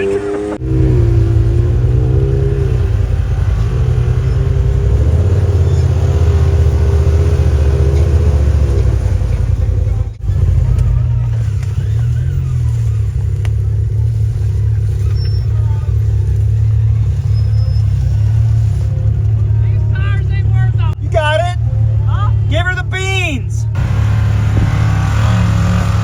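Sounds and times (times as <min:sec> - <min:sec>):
utv engine running hard: 0:00.0 - 0:26.0.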